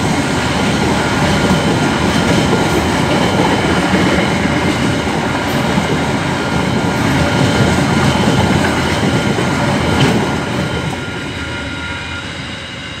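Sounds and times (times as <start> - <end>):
freight train wheels clattering: 0.0 - 11.6.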